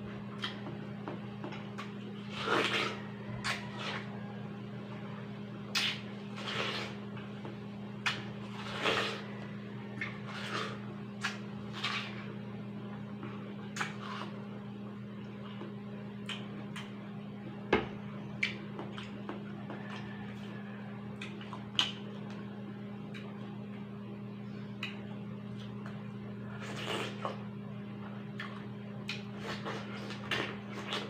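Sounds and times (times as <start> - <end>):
chewing watermelon: 0.1 - 4.4, 5.0 - 17.1, 18.3 - 23.8, 24.6 - 31.0.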